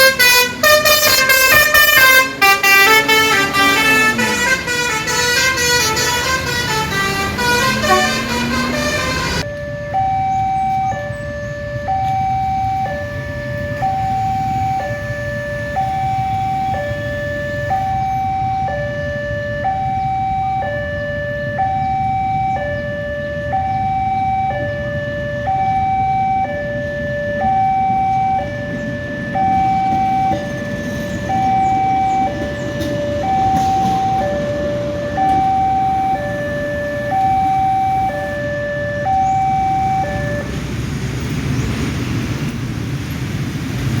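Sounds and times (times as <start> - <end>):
two-tone emergency siren: 0.0 - 40.6.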